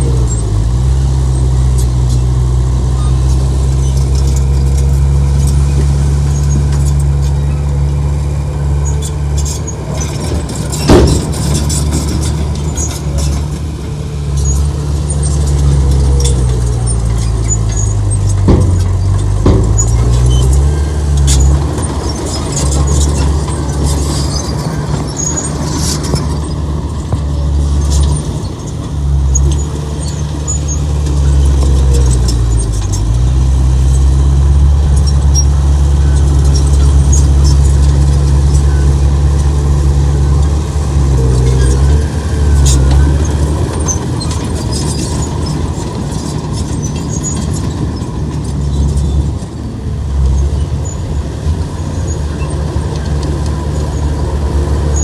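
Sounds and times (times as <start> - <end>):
high metallic squeaks and clicks: 0.0 - 51.3
heavy diesel engine under load: 0.0 - 55.0.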